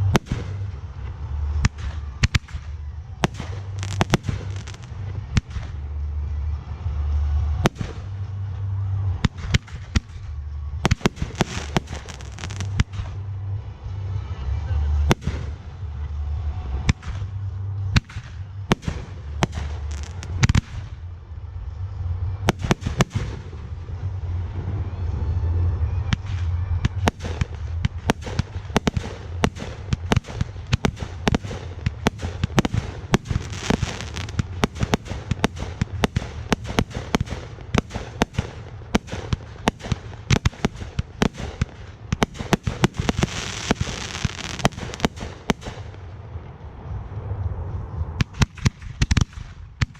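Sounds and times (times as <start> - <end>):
fireworks bangs: 0.0 - 5.9, 7.2 - 13.3, 15.0 - 21.1, 21.7 - 46.5.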